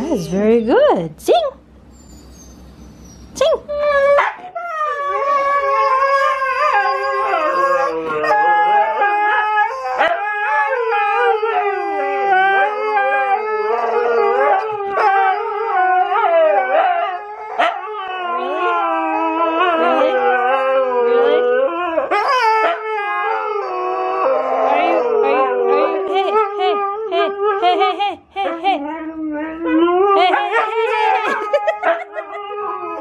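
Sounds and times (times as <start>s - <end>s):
dogs howling together: 2.2s - 27.8s, 28.5s - 33.0s.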